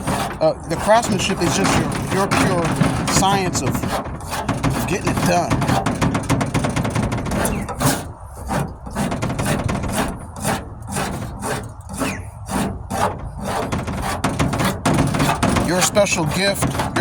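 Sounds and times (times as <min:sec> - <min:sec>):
rasp scraping body filler: 0:00.0 - 0:17.0.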